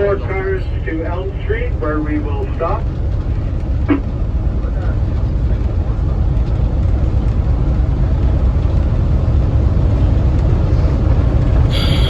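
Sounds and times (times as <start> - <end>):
train rolling on rails: 0.0 - 12.0.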